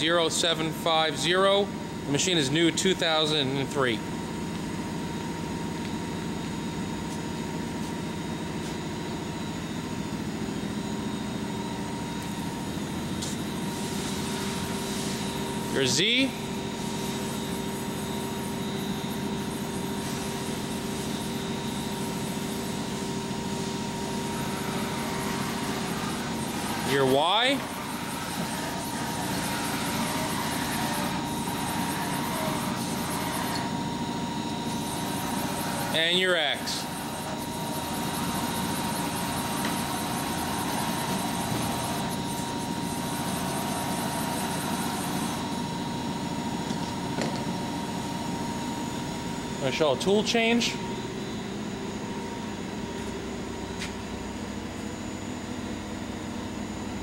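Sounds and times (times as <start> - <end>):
axis drive whining: 0.0 - 57.0
low machine hum: 0.0 - 57.0.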